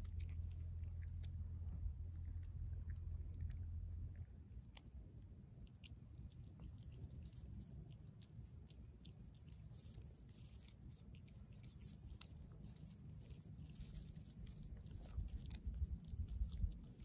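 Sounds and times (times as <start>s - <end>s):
cat crunching fish: 0.0s - 17.0s.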